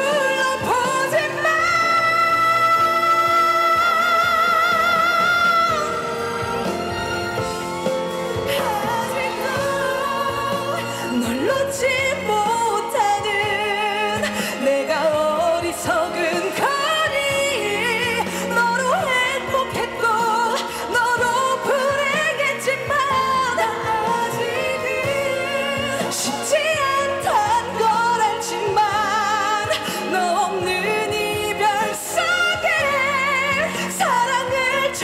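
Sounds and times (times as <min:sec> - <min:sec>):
instrumental accompaniment: 0:00.0 - 0:35.0
woman singing pop ballad: 0:00.0 - 0:35.0.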